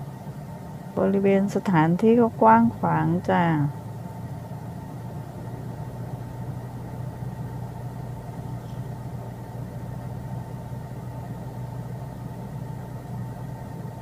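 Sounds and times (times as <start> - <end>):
faint high whine: 0.0 - 14.0
steady mechanical hum: 0.0 - 14.0.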